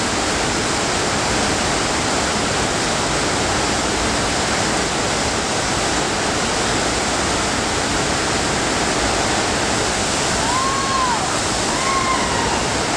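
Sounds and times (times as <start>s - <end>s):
water rushing in a thin sheet: 0.0s - 12.9s.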